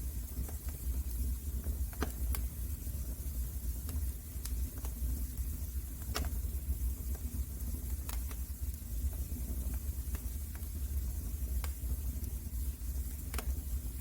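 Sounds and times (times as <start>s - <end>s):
logs popping in fire: 0.0s - 14.0s
low rumble of flames: 0.0s - 14.0s.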